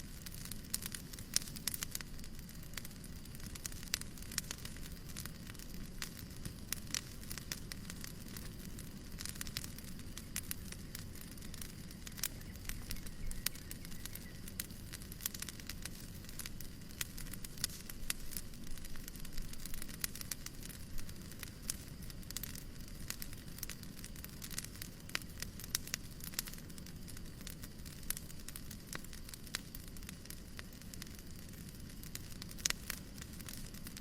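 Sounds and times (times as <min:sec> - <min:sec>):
fireplace fire crackling: 0:00.0 - 0:34.0
low white noise hiss: 0:00.0 - 0:34.0.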